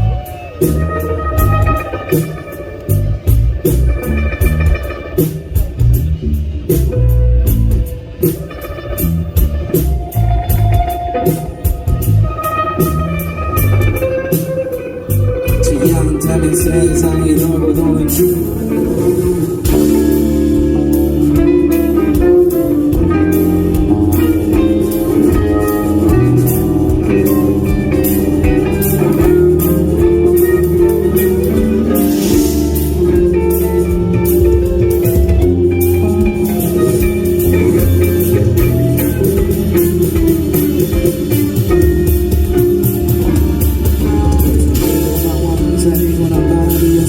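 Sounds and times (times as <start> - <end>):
bass: 0.0 - 47.0
drum kit: 0.0 - 47.0
guitar: 0.0 - 47.0.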